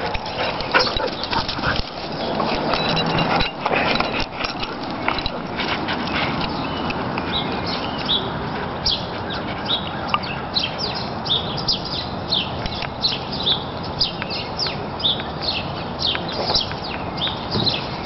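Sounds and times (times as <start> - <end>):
songbirds chirping: 0.0 - 18.0
steady background noise: 0.0 - 18.0.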